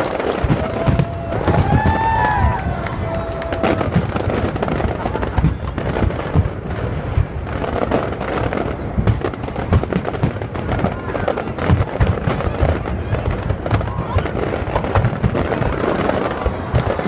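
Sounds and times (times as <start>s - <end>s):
fireworks bangs and booms: 0.0s - 17.0s.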